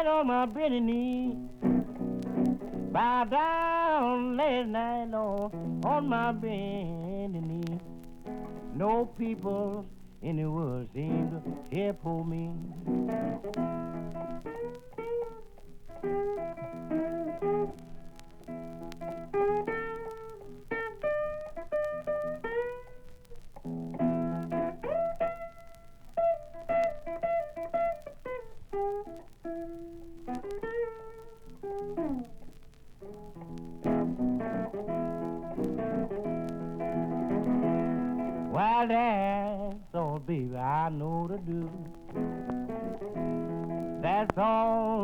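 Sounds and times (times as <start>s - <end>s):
blues guitar lead lines: 0.0s - 45.0s.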